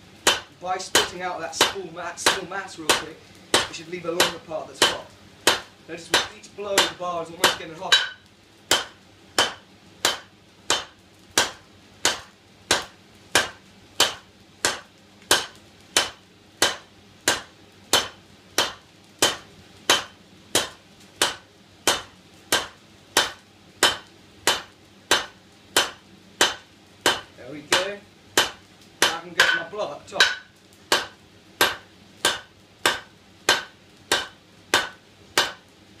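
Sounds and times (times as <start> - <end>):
hammer striking hot steel on anvil: 0.2 - 35.6.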